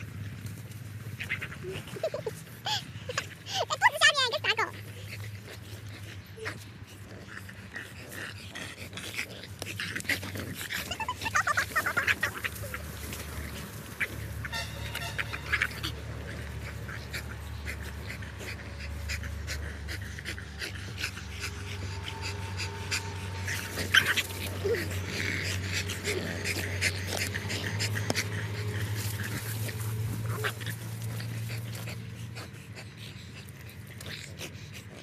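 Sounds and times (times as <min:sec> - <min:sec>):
dogs growling and tussling: 0:00.0 - 0:35.0.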